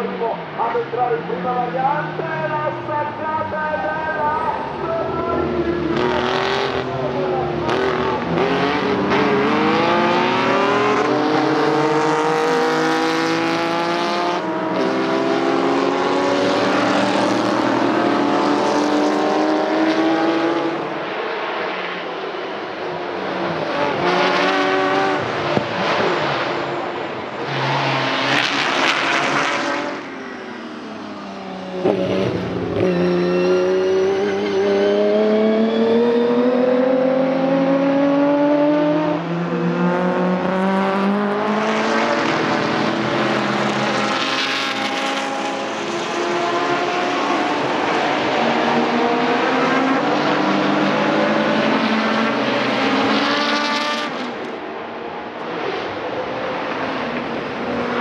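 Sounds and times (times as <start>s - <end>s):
cars passing: 0.0s - 58.0s
racing car engines accelerating: 0.0s - 58.0s.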